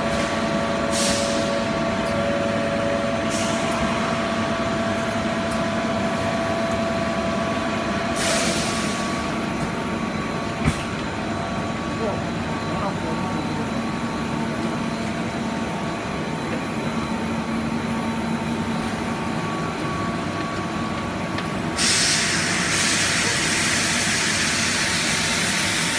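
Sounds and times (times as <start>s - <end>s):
filling machine humming and whining: 0.0s - 25.9s.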